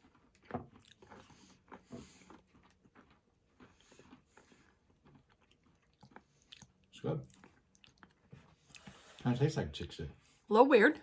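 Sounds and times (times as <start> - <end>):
crunching of hard candy being chewed: 0.0 - 8.9.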